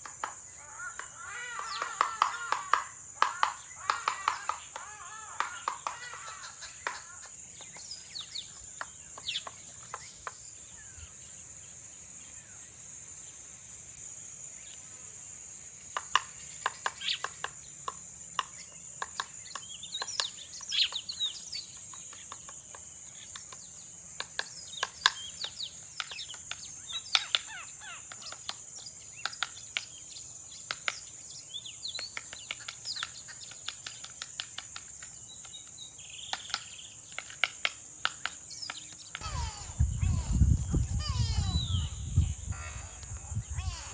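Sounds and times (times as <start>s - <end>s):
woodpecker pecking bark: 0.0s - 10.4s, 15.9s - 43.9s
high-pitched insect trill: 0.0s - 43.9s.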